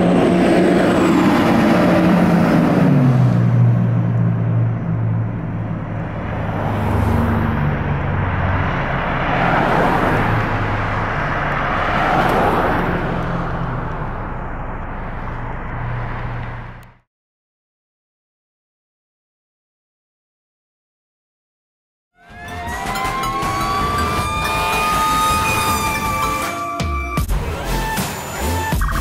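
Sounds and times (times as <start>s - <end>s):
fire engine diesel engine droning: 0.0s - 17.0s, 22.2s - 28.7s
road noise: 0.0s - 17.1s, 22.2s - 29.0s.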